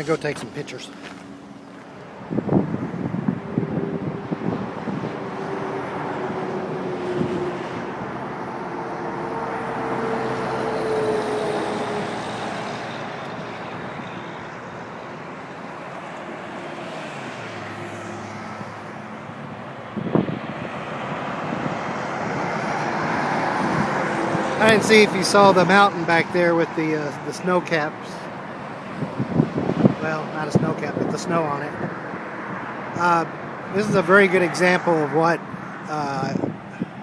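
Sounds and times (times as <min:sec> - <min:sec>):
highway traffic passing: 0:00.0 - 0:37.0.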